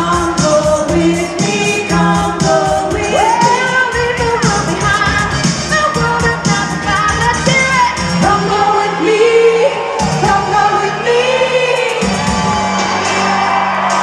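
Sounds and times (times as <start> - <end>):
female vocal group singing: 0.0 - 12.1
pop backing track with bass and drums: 0.0 - 14.0.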